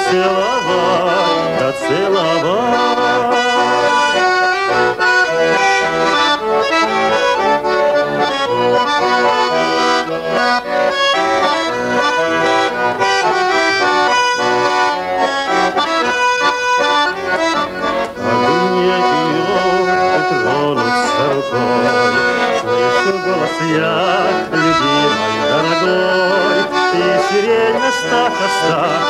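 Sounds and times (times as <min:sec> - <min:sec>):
button accordion playing folk music: 0:00.0 - 0:29.0.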